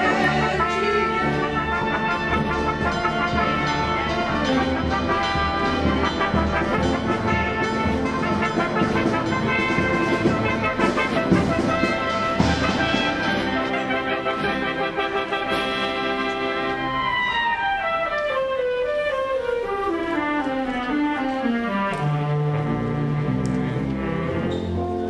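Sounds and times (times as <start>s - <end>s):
brass band playing chords: 0.0s - 25.0s.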